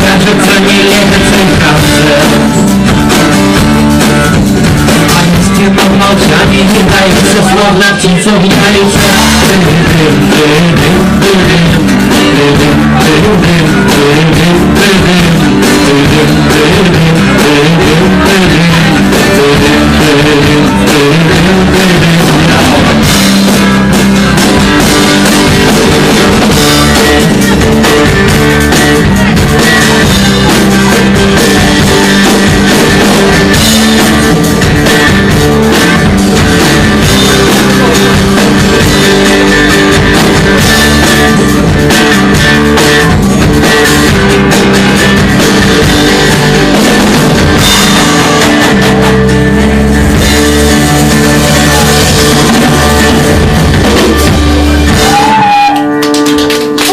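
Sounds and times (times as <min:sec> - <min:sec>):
person singing: 0:00.0 - 0:23.9, 0:24.5 - 0:56.0, 0:56.6 - 0:56.9
drum kit: 0:00.0 - 0:56.9
electric guitars: 0:00.0 - 0:56.9.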